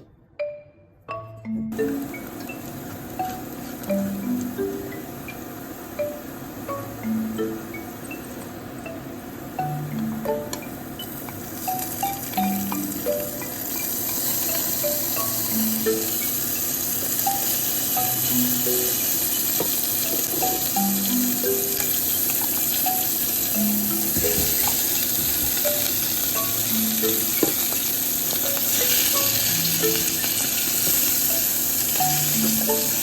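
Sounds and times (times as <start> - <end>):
background music with simple melody: 0.0 - 33.0
food sizzling in a pan: 1.7 - 33.0.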